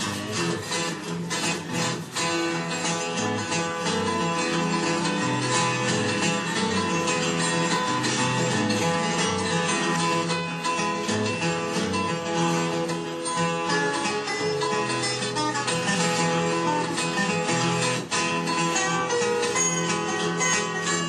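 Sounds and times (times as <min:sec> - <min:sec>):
fingerpicked guitar: 0:00.0 - 0:21.0.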